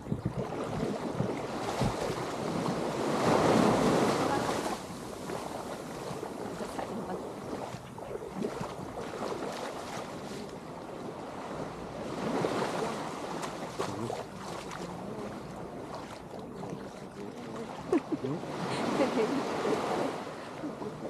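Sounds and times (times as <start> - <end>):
ocean waves washing on shore: 0.0 - 21.0
wind buffeting microphone: 0.0 - 21.0.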